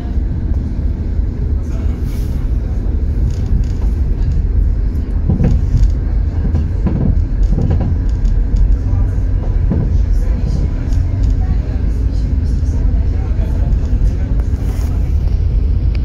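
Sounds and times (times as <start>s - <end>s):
tram clattering: 0.0s - 16.0s
tram rumbling on track: 0.0s - 16.0s.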